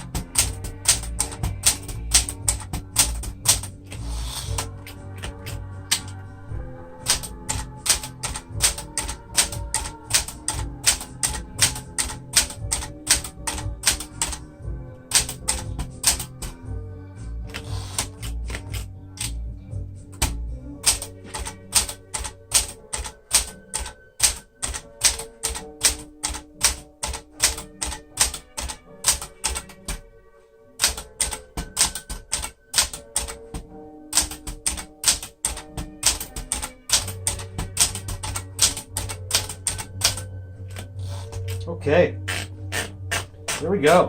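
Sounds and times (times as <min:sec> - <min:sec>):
typewriter keys striking: 0:00.0 - 0:06.2, 0:07.0 - 0:14.4, 0:15.1 - 0:16.6, 0:17.5 - 0:19.4, 0:20.1 - 0:30.0, 0:30.8 - 0:41.6, 0:42.3 - 0:44.0.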